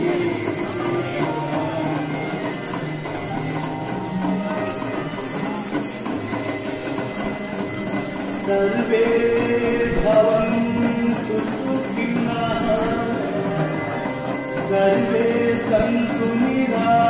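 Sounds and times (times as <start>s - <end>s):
brass bells ringing: 0.0s - 17.0s
crowd noise: 0.0s - 17.0s.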